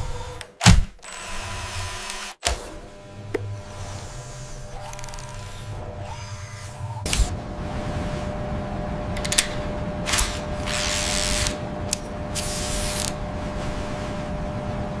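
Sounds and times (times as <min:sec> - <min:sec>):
steady electric hum: 0:02.7 - 0:15.0.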